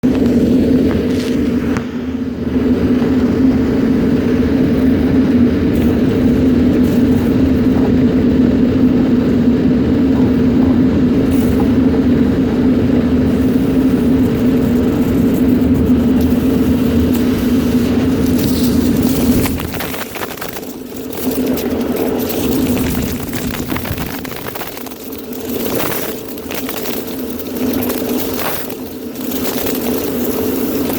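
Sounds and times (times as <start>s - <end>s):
power vacuum drone: 0.0s - 30.9s.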